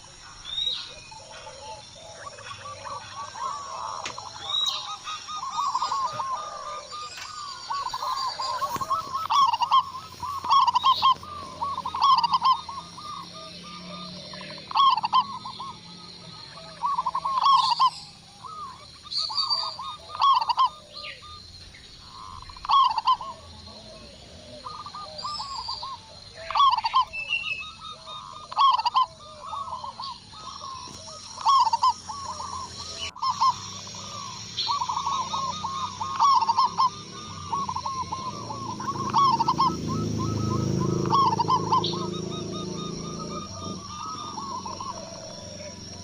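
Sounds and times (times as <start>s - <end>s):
doves cooing: 0.0s - 46.0s
small birds chirping: 0.0s - 46.0s.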